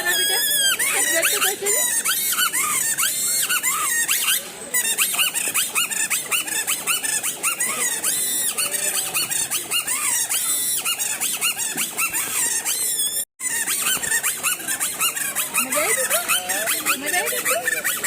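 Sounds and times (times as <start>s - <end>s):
reed whistle squeaks: 0.0s - 18.0s.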